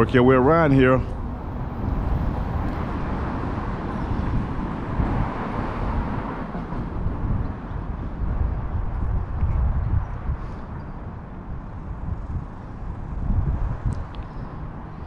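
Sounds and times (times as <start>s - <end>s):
traffic rumbling on overpass: 0.0s - 15.0s.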